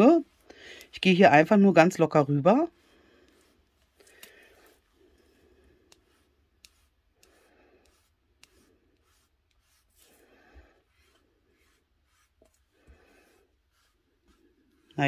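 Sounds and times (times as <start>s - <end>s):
ink pad rubbing on card: 0.0s - 0.5s, 2.5s - 15.0s.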